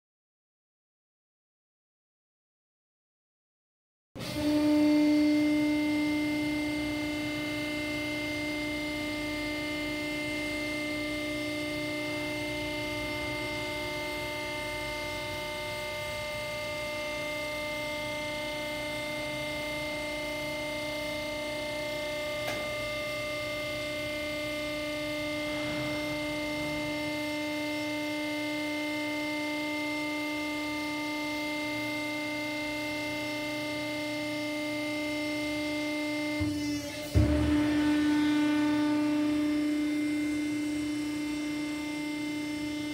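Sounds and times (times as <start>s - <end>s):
hydraulic pump motor whining hum: 4.2s - 42.9s.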